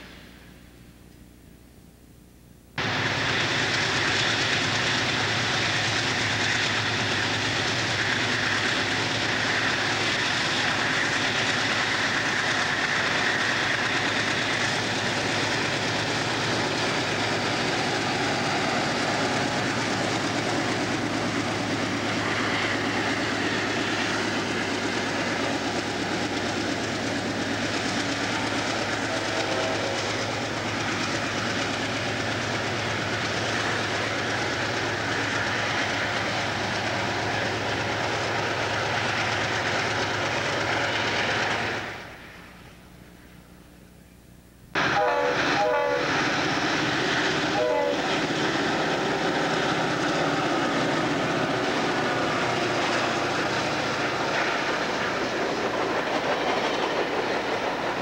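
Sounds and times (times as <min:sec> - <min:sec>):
train wheels rolling on rails: 0:02.8 - 0:43.4, 0:44.8 - 0:58.0
diesel locomotive engines running: 0:02.8 - 0:58.0.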